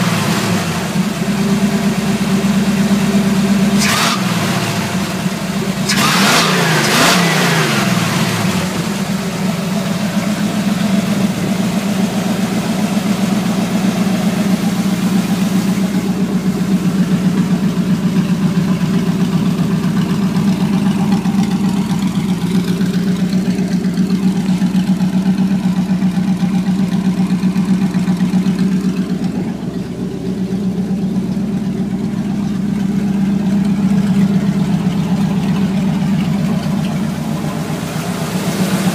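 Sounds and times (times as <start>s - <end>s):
truck engine revving and idling: 0.0s - 38.9s.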